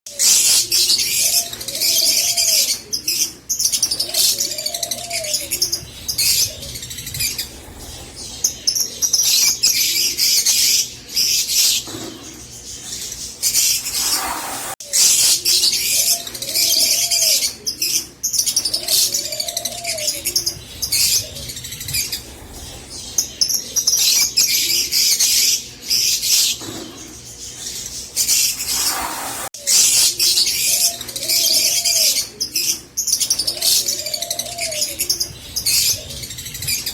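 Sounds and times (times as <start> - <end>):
lovebirds chattering: 0.1 - 36.9.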